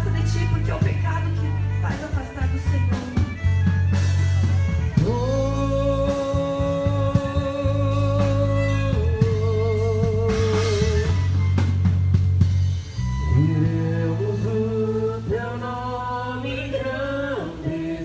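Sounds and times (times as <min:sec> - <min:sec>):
live worship band music: 0:00.0 - 0:18.0.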